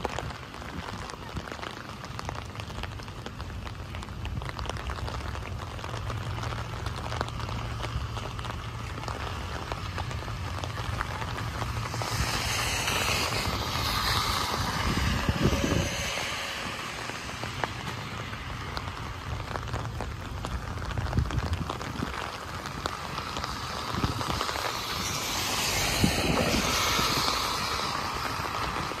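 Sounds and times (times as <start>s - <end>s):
car tyres hissing on wet road: 0.0s - 29.0s
steady rain: 0.0s - 29.0s.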